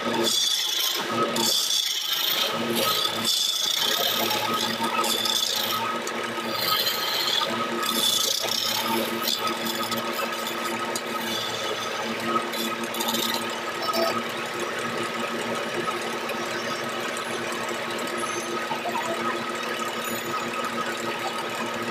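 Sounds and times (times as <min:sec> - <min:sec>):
wood lathe humming and whining: 0:00.0 - 0:21.9
chisel scraping spinning wood: 0:00.2 - 0:21.9.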